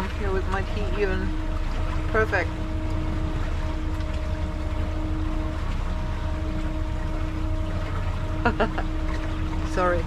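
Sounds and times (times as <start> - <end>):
boat engine droning: 0.0 - 10.0
water wash: 0.0 - 10.0
wind: 0.0 - 10.0.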